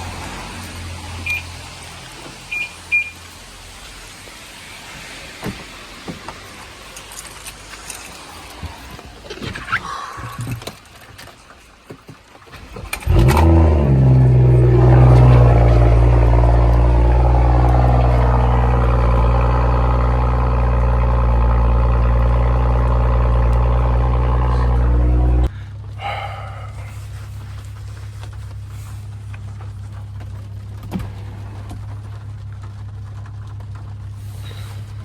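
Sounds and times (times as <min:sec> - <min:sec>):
car engine starting and idling: 0:00.0 - 0:11.7, 0:12.5 - 0:35.0.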